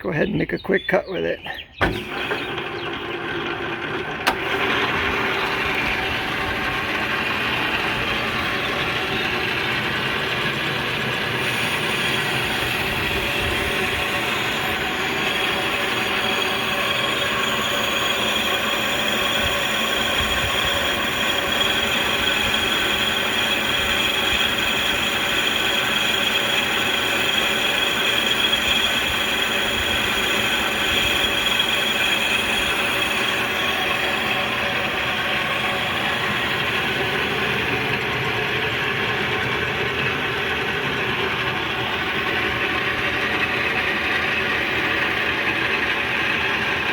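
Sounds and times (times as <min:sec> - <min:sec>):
metal lathe running: 0:01.5 - 0:46.9.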